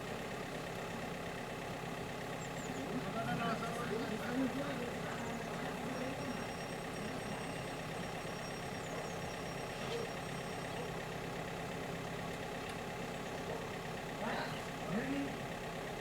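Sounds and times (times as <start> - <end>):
fire truck engine idling: 0.0 - 16.0.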